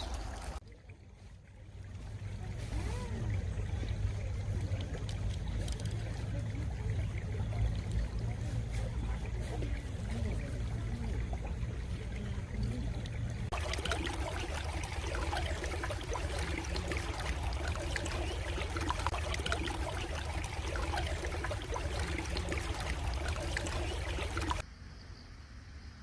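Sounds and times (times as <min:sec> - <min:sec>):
stream water babbling: 0:00.0 - 0:24.7.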